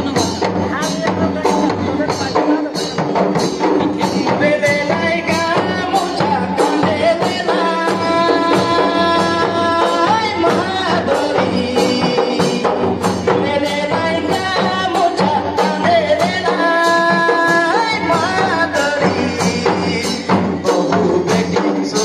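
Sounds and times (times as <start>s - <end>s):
person singing: 0.0s - 22.0s.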